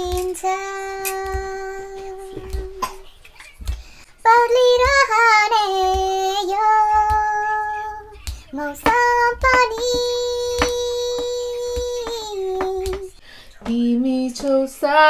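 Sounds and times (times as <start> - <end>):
girl singing unaccompanied: 0.0 - 15.0.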